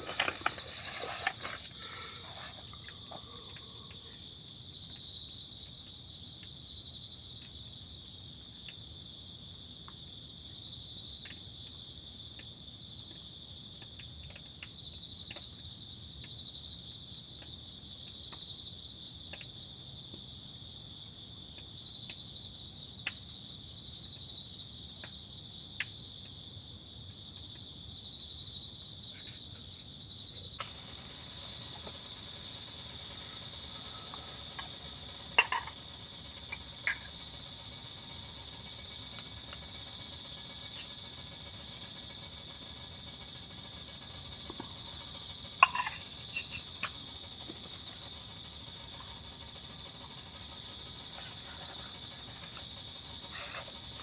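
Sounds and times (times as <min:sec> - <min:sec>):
high insect hum: 0:00.0 - 0:13.5, 0:15.8 - 0:54.0
crickets chirping: 0:00.0 - 0:54.0.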